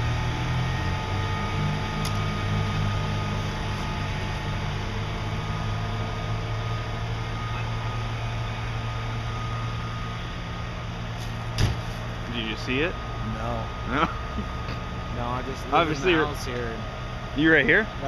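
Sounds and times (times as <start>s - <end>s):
fire truck engine idling: 0.0s - 18.0s.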